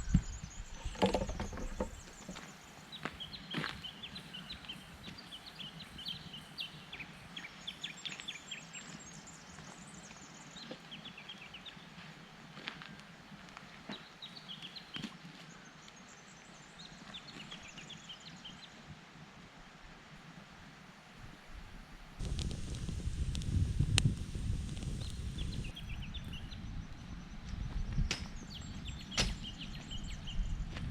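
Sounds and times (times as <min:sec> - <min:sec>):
birds chirping and twittering: 0:00.0 - 0:18.8, 0:22.2 - 0:30.9.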